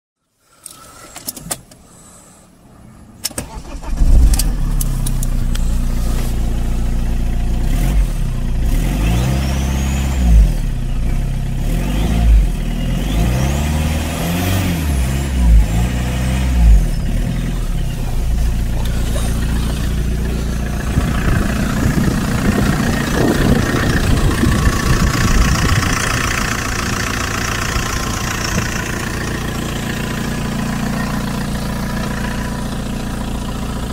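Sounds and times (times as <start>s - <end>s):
diesel engine cranking and idling: 0.6s - 33.9s
engine revving: 3.4s - 33.9s.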